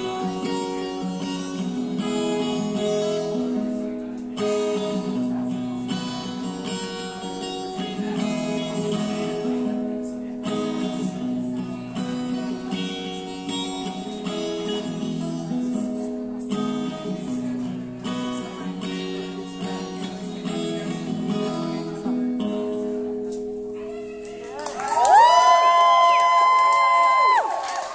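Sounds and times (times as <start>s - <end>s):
acoustic guitar strumming: 0.0s - 24.5s.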